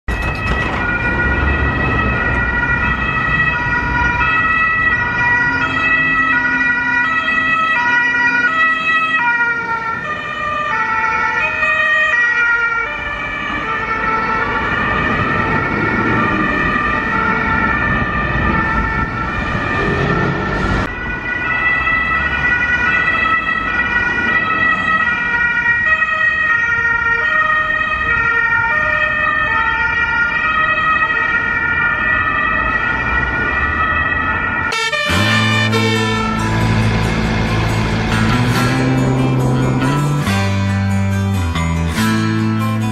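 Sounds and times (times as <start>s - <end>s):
police car two-tone siren: 0.1s - 40.4s
two-tone emergency sirens: 0.1s - 41.6s
passing vehicle engines: 0.2s - 11.8s, 13.0s - 25.8s, 30.8s - 41.3s.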